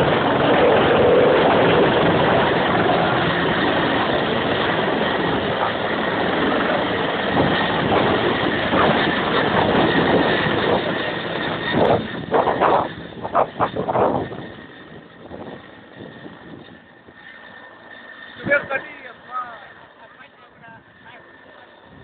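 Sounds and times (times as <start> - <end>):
faint whine: 0.0 - 22.0
helicopter engine and rotor: 0.0 - 22.0.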